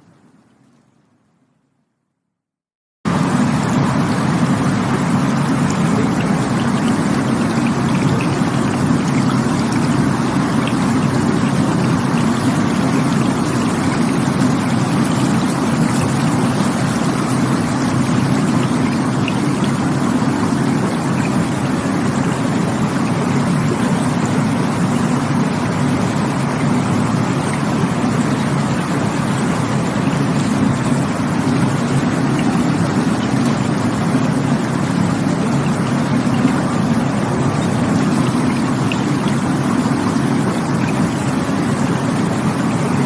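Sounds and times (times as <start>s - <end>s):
rushing stream water: 3.1s - 43.0s.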